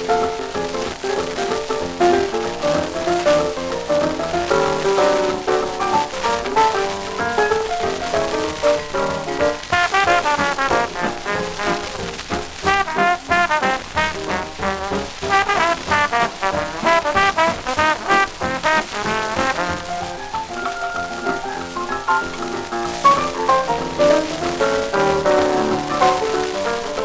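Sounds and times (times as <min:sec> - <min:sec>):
swing dance band brass: 0:00.0 - 0:27.0.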